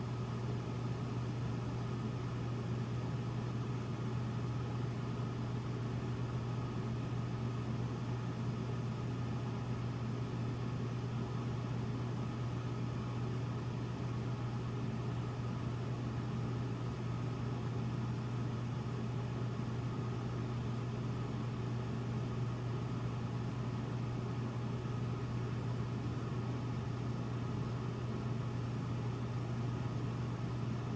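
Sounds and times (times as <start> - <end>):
air conditioner humming: 0.0 - 30.9.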